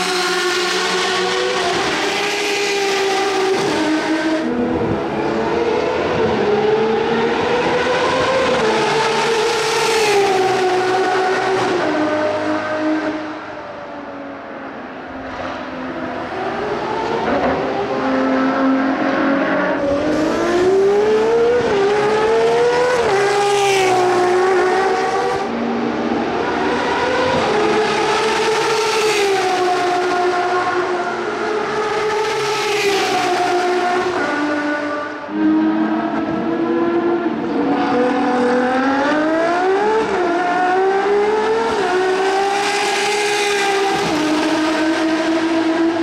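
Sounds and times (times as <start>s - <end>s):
race car engine at speed: 0.0s - 46.0s.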